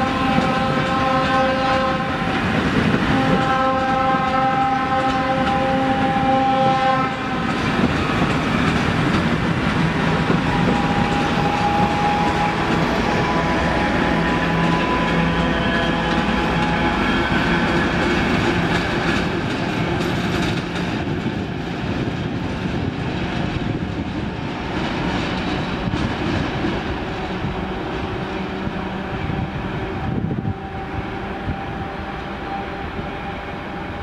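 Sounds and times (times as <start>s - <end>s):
train wheels clattering over track: 0.0s - 34.0s.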